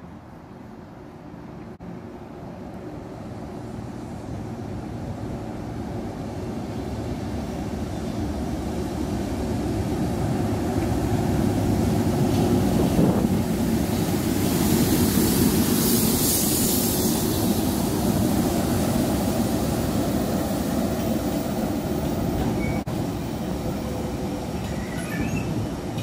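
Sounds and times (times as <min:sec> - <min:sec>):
electric locomotives passing: 0:01.8 - 0:26.0.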